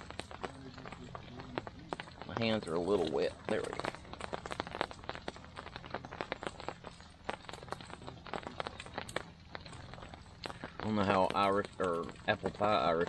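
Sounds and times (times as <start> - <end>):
faint steady hum: 0.0 - 13.0
raindrops tapping on tarp: 0.0 - 13.0.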